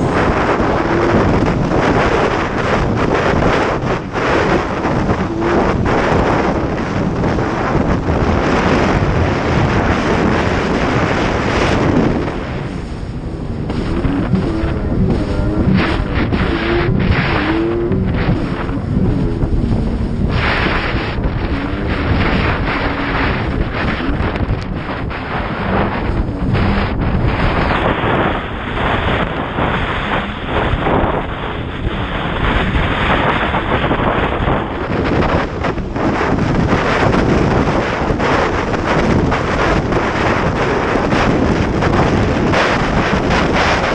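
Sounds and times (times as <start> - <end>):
personal watercraft engine: 0.0 - 43.9
water rushing: 0.0 - 43.9
wind buffeting microphone: 0.0 - 43.9.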